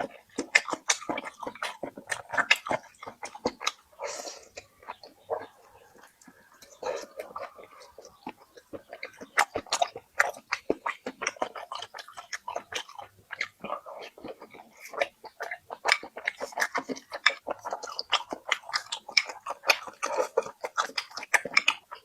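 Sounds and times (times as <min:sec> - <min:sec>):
person chewing and crunching food: 0:00.0 - 0:22.0.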